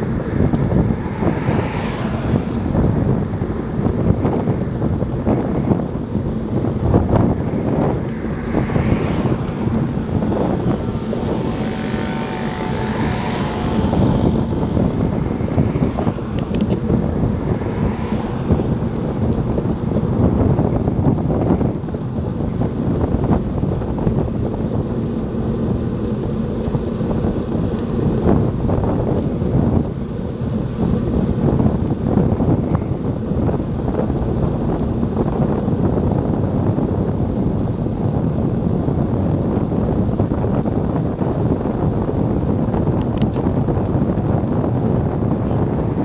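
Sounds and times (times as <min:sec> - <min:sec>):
motor vehicle passing: 0:00.0 - 0:46.0
wind buffeting microphone: 0:00.0 - 0:46.0.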